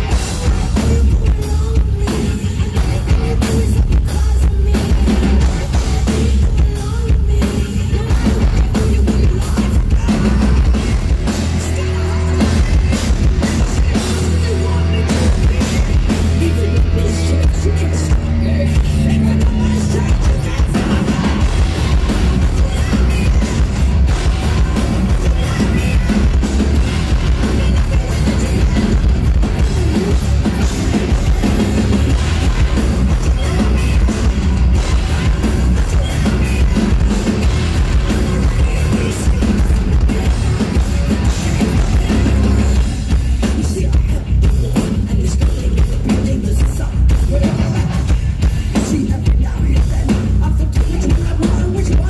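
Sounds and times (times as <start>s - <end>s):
heavy metal band playing live: 0.0s - 52.0s.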